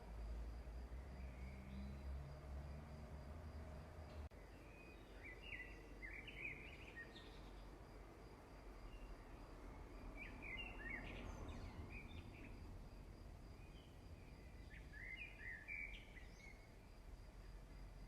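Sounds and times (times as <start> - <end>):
faint bird chirping: 0.0 - 2.9, 4.1 - 7.8, 8.8 - 18.0.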